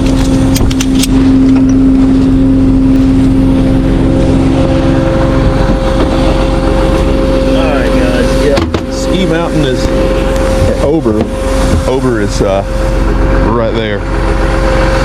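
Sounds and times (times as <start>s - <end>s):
truck engine droning under load: 0.0s - 15.0s.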